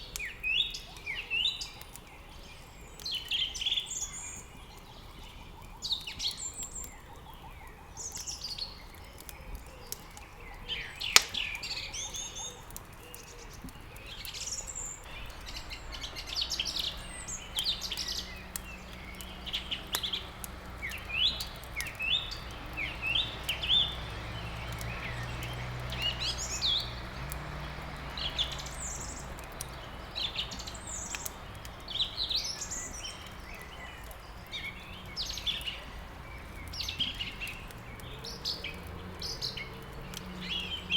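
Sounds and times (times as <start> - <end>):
small birds chirping: 0.0 - 40.9
wood fire crackling: 0.0 - 40.9.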